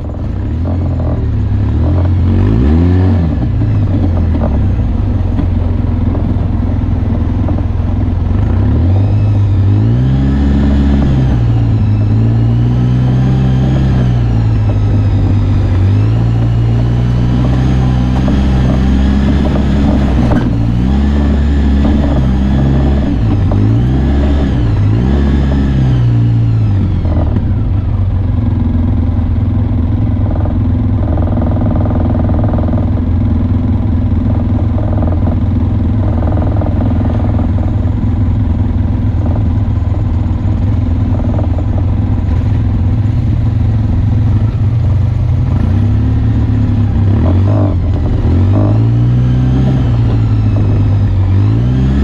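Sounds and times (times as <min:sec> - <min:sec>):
vehicle engine revving: 0:00.0 - 0:52.0.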